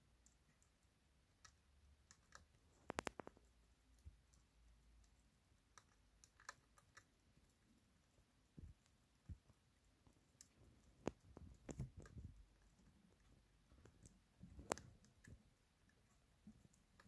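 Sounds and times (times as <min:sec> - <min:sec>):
hamster gnawing seed: 0:00.0 - 0:17.0.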